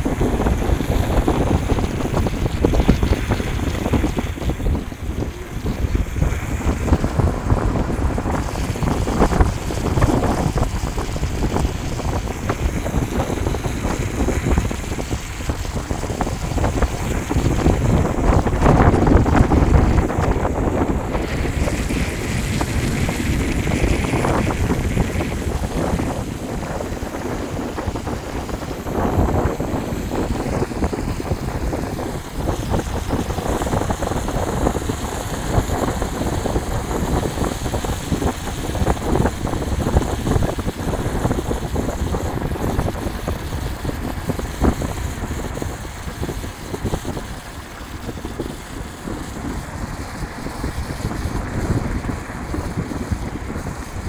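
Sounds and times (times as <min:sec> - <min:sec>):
car road noise: 0:00.0 - 0:54.0
wind buffeting microphone: 0:00.0 - 0:54.0.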